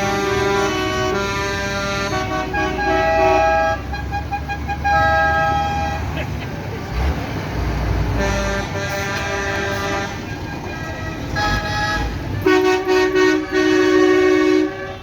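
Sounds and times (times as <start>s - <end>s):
tractor horns tooting: 0.0s - 6.4s, 8.1s - 15.0s
engine rumble: 0.0s - 15.0s.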